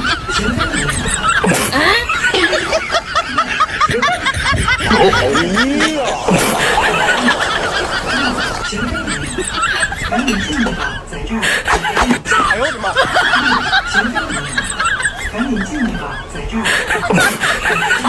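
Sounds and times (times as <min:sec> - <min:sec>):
people laughing: 0:00.0 - 0:18.0.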